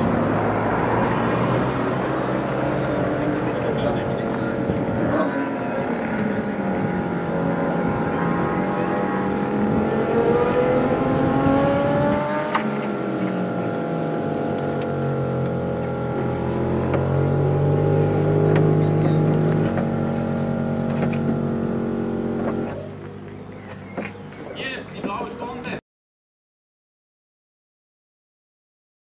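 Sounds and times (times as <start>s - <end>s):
motorcycle engine revving: 0.0s - 23.6s.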